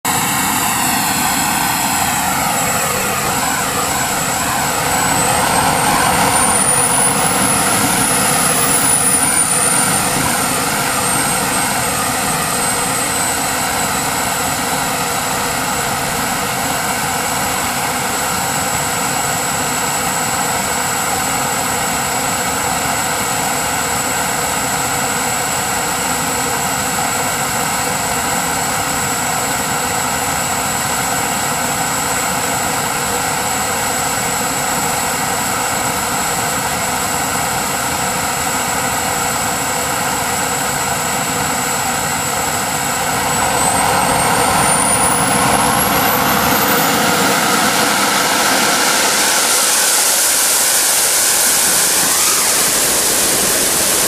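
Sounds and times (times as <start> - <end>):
jet turbine whining: 0.0 - 54.0.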